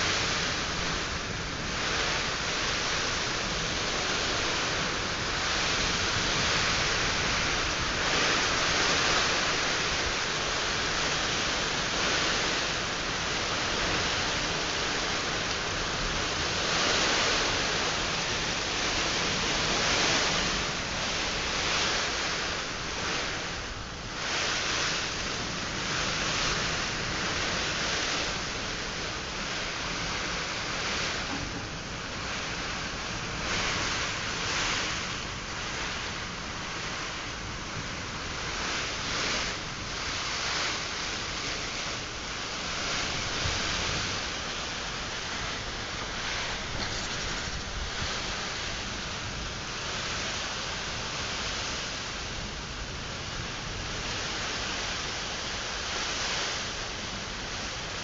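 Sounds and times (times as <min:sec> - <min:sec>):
gusting wind: 0:00.0 - 0:58.0
heavy rain: 0:00.0 - 0:58.0.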